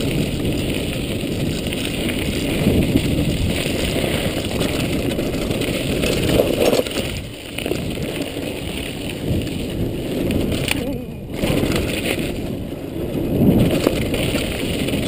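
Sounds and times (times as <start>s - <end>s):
bike knocks and rattles: 0.0s - 15.0s
bike tyre and wind rumble: 0.0s - 15.0s.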